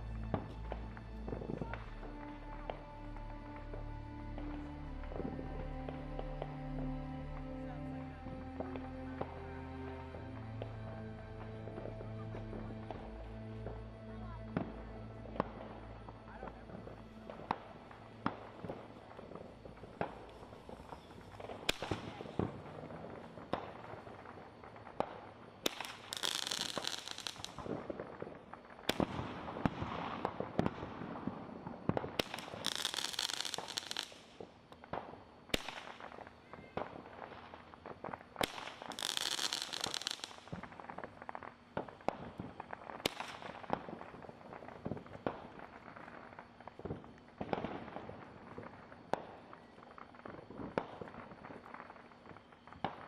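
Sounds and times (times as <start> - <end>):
fireworks bangs and pops: 0.0 - 53.0
high-pitched firework bursts: 0.0 - 53.0.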